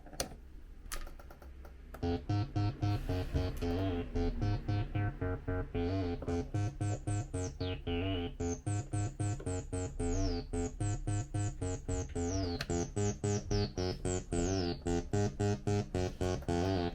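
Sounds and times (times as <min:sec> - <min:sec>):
acid synth bassline: 0:02.0 - 0:16.9
hardcore techno track: 0:02.0 - 0:16.9.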